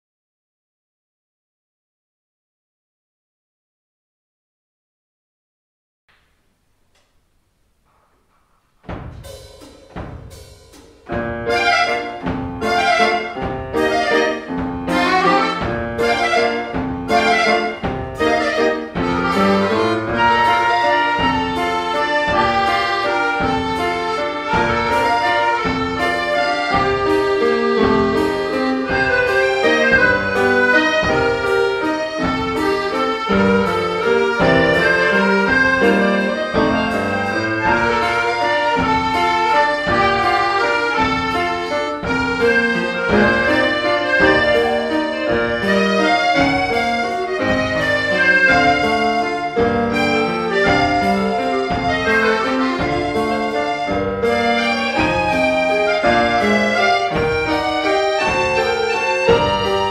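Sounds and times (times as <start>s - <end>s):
chamber ensemble playing: 10.3s - 59.9s.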